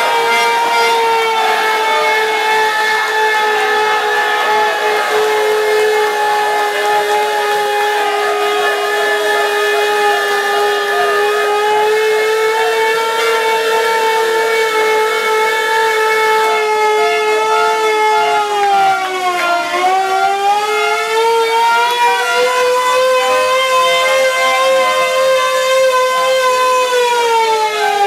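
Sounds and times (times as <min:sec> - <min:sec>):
steady siren tone: 0:00.0 - 0:28.0.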